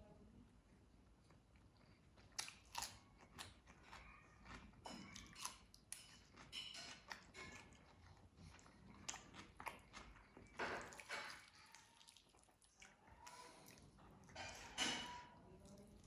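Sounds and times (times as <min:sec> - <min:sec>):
cucumber crunching while chewed: 0:01.2 - 0:14.3.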